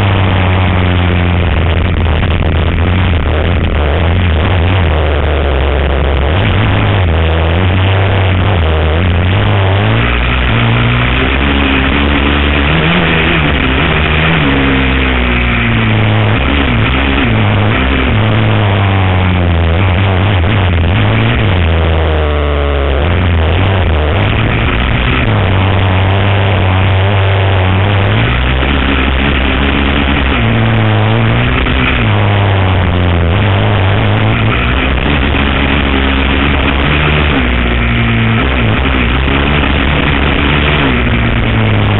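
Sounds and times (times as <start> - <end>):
quad bike engine revving: 0.0 - 41.9
wind rush on microphone: 0.0 - 41.9.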